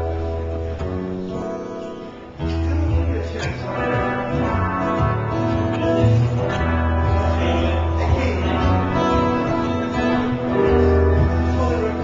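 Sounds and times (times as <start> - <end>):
acoustic guitar: 0.0 - 12.0
bass: 0.0 - 12.0
electric guitar: 0.0 - 12.0.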